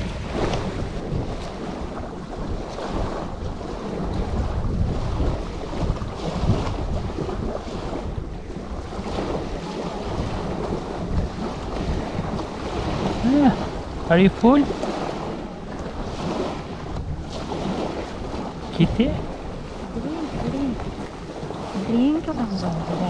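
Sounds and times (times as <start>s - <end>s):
small waves on pebbly shore: 0.0s - 23.0s
wind buffeting microphone: 0.0s - 23.0s.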